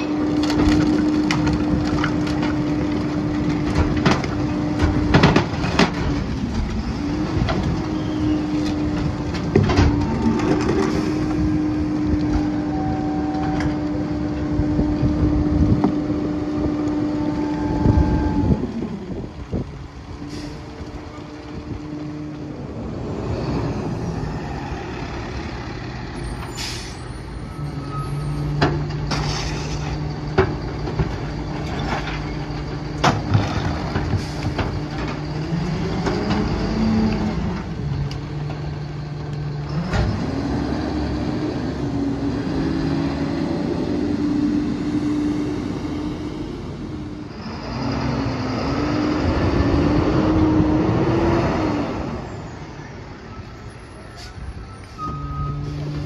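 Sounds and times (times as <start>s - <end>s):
diesel truck engine: 0.0s - 56.0s.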